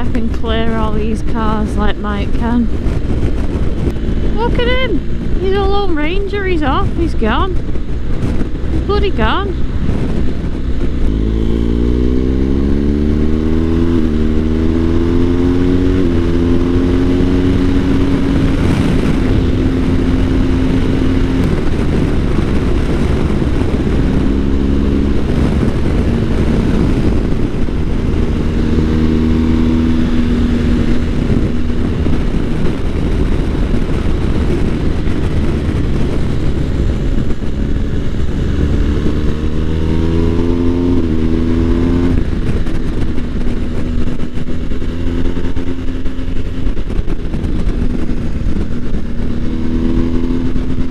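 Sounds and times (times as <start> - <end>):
motorcycle engine shifting gears: 0.0 - 50.9
wind and road noise: 0.0 - 50.9.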